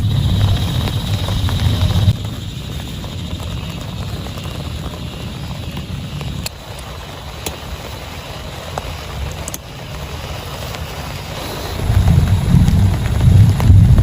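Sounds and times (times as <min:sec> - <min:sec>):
distant thunder rumbling: 0:00.0 - 0:14.0
heavy rain falling: 0:00.0 - 0:14.0.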